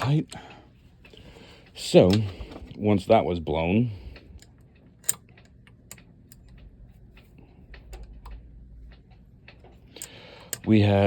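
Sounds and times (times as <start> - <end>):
hand tools clicking and tapping: 0.0 - 2.6, 4.1 - 11.0.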